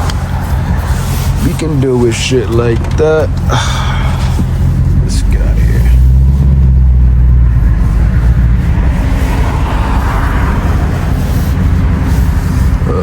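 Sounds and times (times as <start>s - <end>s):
car exhaust rumble pulling away: 0.0s - 13.0s.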